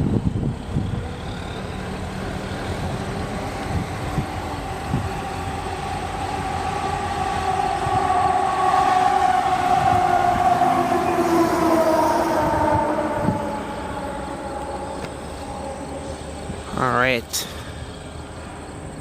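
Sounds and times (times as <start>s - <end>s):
diesel locomotives idling: 0.0s - 19.0s
steady whine: 0.3s - 18.6s.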